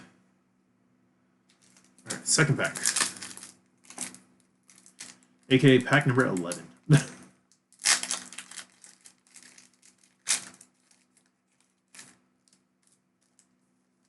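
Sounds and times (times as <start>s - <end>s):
foil wrapper tearing and crinkling: 1.6s - 7.1s, 7.7s - 13.5s.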